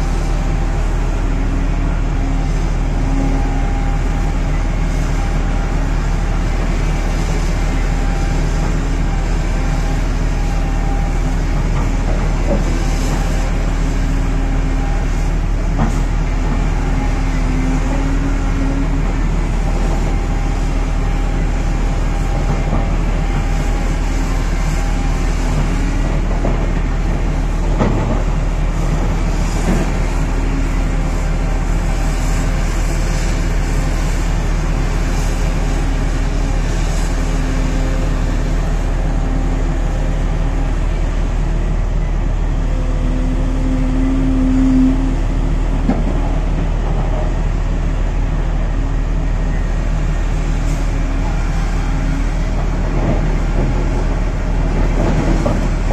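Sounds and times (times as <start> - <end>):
heavy diesel engines running: 0.0 - 55.9.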